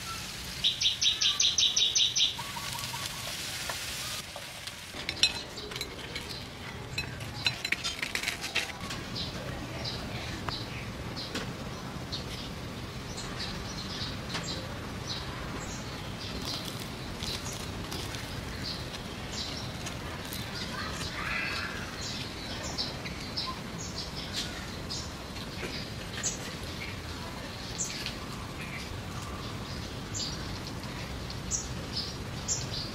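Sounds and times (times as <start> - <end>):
small birds chirping: 0.0 - 4.2, 5.1 - 32.9
steady background hiss: 0.0 - 32.9.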